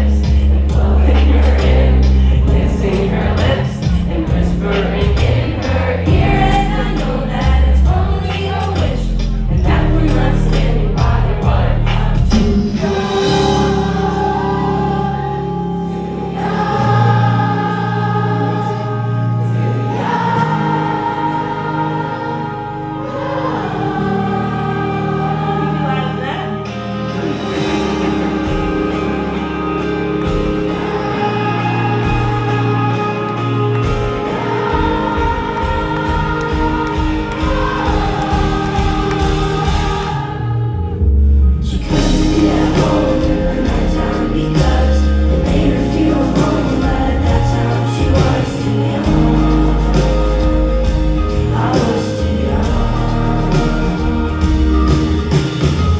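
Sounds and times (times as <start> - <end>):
crowd singing along: 0.0 - 55.9
live pop band music: 0.0 - 55.9.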